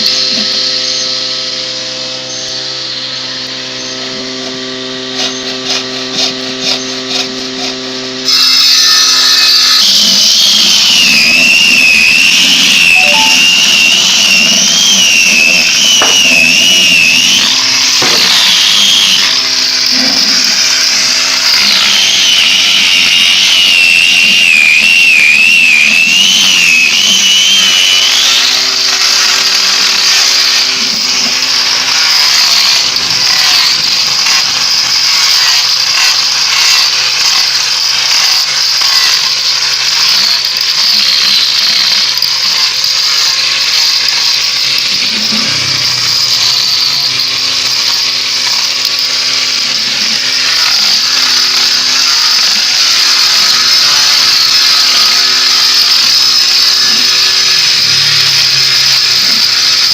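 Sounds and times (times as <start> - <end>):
power tool whining on wood: 0.0 - 59.9.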